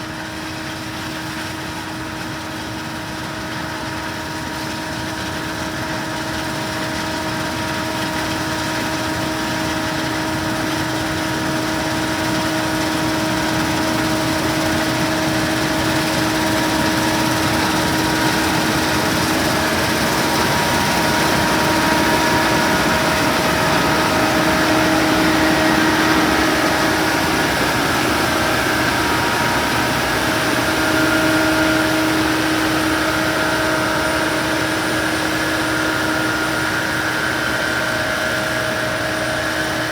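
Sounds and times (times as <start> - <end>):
combine engine drone: 0.0 - 39.9
steady machine whine: 0.0 - 39.9.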